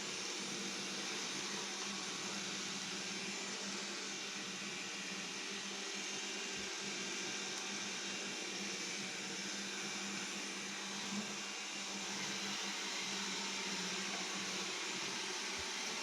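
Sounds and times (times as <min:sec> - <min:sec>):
robot vacuum motor hum: 0:00.1 - 0:16.0.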